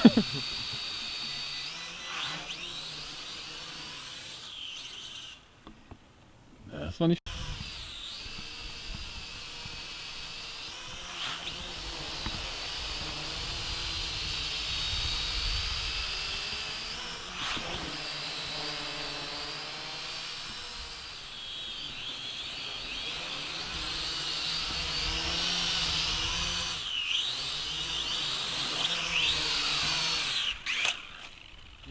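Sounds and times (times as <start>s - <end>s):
toy drone propellers whirring: 0.0s - 5.5s, 7.3s - 31.9s.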